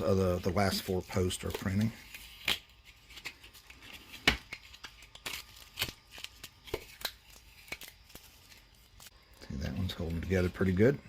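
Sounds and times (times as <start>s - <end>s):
unwrapping rustle: 0.4s - 10.7s.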